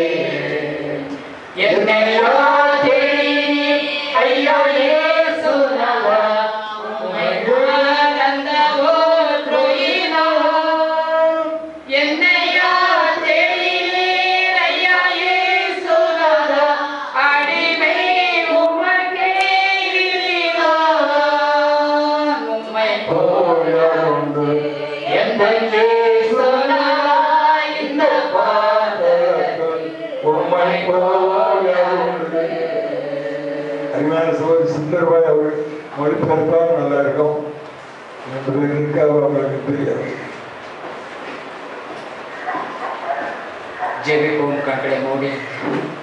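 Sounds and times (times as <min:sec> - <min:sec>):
voices singing unaccompanied: 0:00.0 - 0:37.6, 0:42.2 - 0:46.0.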